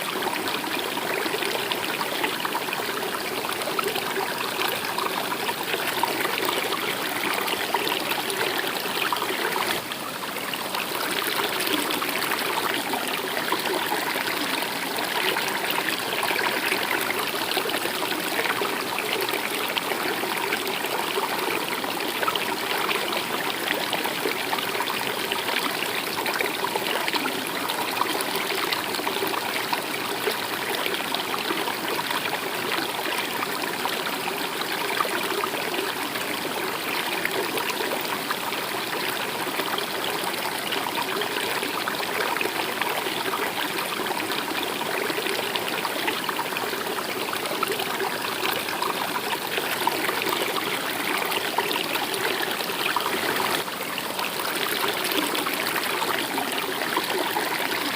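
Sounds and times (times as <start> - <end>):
stream water running: 0.0 - 57.9.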